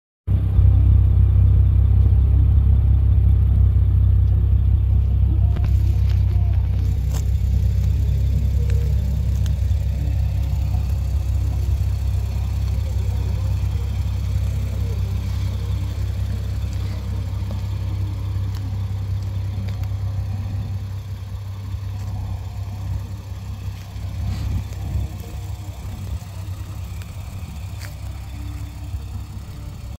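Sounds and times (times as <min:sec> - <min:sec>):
car engine idling: 0:00.3 - 0:30.0.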